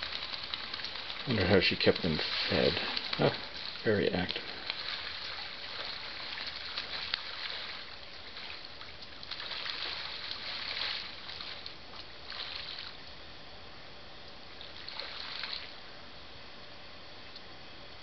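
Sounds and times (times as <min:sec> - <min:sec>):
ducklings splashing on water: 0:00.0 - 0:13.2, 0:14.4 - 0:15.8.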